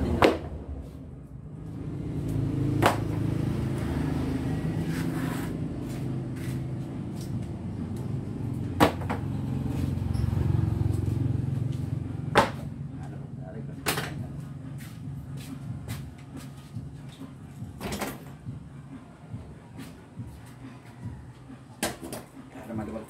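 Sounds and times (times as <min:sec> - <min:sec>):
low rumble of traffic: 0:00.0 - 0:23.0.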